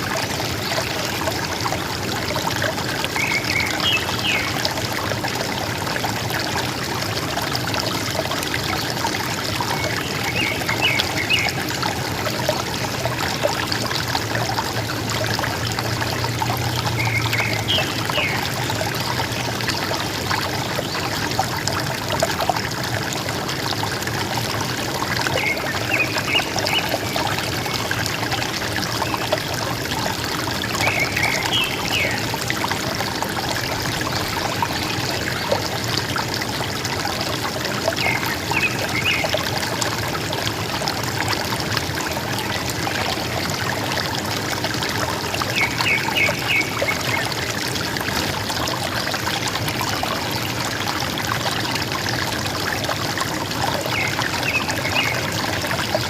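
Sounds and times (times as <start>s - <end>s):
river water flowing and gurgling: 0.0s - 56.0s.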